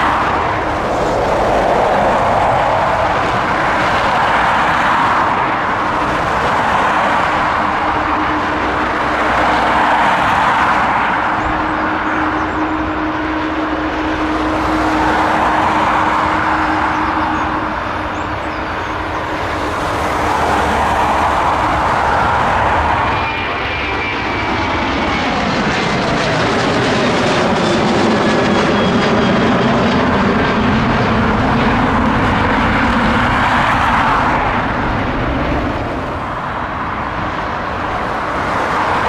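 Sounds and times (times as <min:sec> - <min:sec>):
jet engines rushing: 0:00.0 - 0:39.0.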